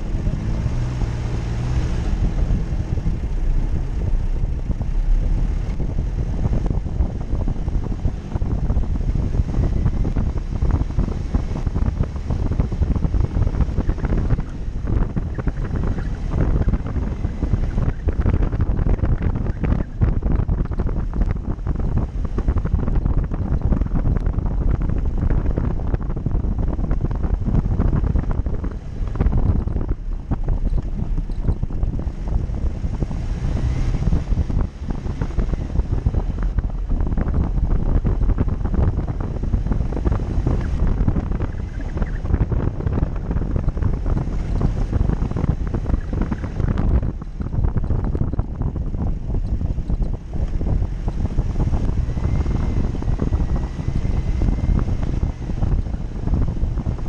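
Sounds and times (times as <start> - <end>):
off-road vehicle rumble: 0.0 - 57.0
wind buffeting microphone: 0.0 - 57.0.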